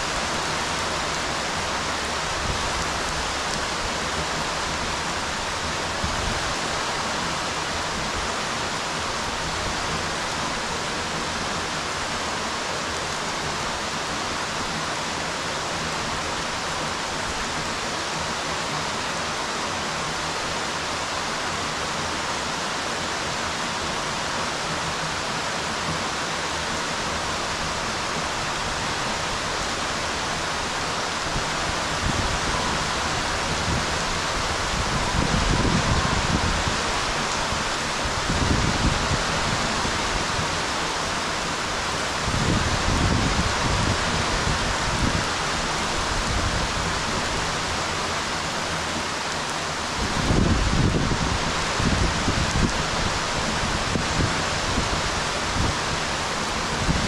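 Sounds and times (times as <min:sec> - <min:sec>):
rain falling on pool water: 0:00.0 - 0:57.0.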